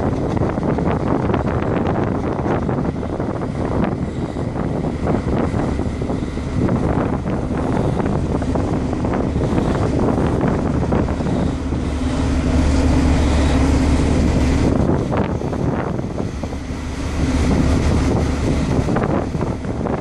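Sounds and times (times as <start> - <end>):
ship low hum: 0.0 - 20.0
wind buffeting microphone: 0.0 - 20.0.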